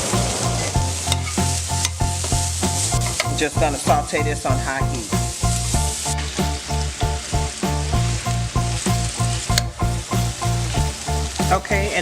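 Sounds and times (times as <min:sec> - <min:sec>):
background music with steady beat: 0:00.0 - 0:12.0
broccoli sizzling in a wok: 0:00.0 - 0:12.0.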